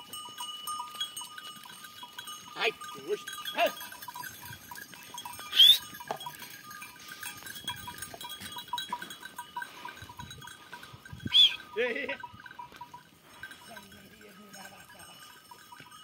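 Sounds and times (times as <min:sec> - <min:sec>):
neck bells tinkling: 0:00.0 - 0:16.0.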